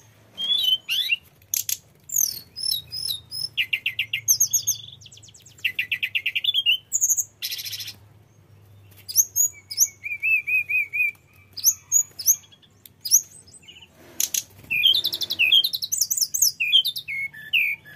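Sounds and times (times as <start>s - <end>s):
flycatcher singing: 0.4s - 17.9s.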